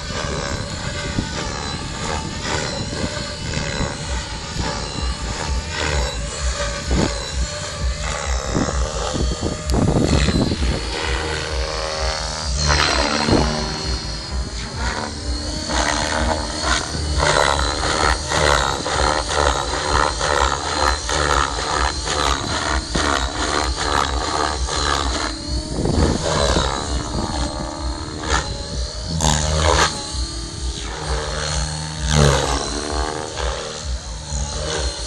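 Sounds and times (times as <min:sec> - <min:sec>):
helicopter rotor chop and whine: 0:00.0 - 0:35.0.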